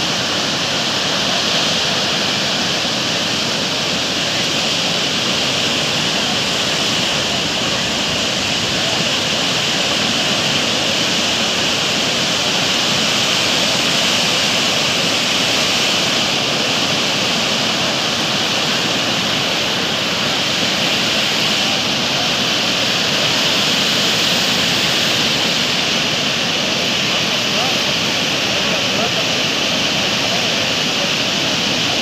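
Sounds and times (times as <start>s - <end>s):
surf breaking on beach: 0.0s - 32.0s.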